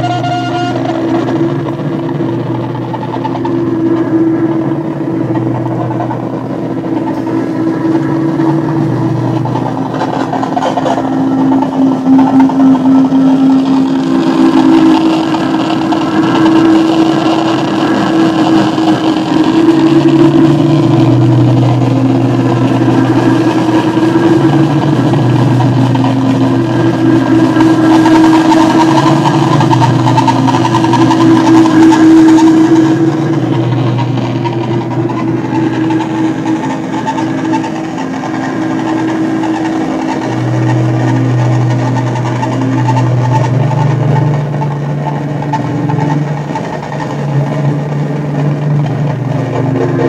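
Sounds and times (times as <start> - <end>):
droning noise music: 0.0 - 50.0.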